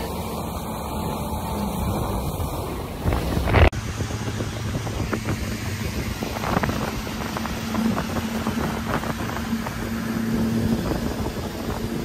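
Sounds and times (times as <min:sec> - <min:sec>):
outboard motor humming: 0:00.0 - 0:12.0
wind buffeting microphone: 0:00.0 - 0:12.0.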